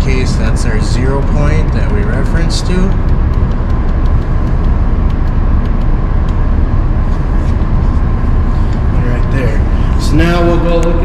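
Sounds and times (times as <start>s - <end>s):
faint machine whine: 0.0s - 11.0s
machinery low rumble: 0.0s - 11.0s.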